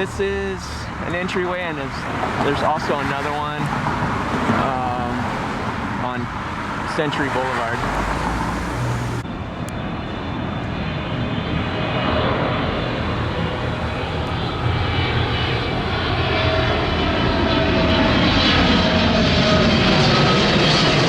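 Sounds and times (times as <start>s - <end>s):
airplane engine rumble: 0.0s - 21.0s.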